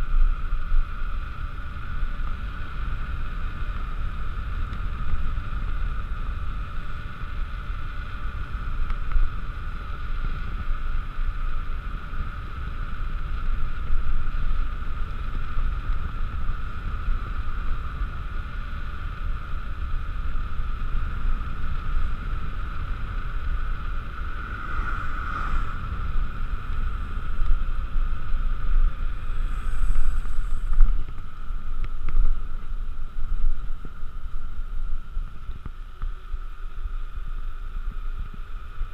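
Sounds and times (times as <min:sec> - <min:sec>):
tyres humming on asphalt: 0:00.0 - 0:38.9
wind buffeting microphone: 0:00.0 - 0:38.9.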